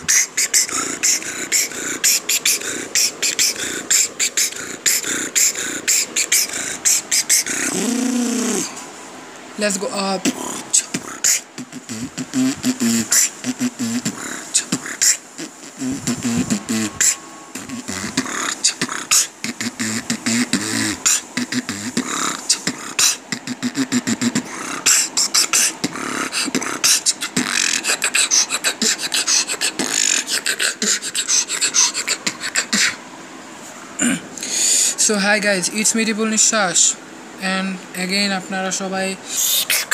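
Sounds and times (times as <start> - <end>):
person beatboxing: 0.0 - 8.8, 9.6 - 33.0, 39.2 - 39.9.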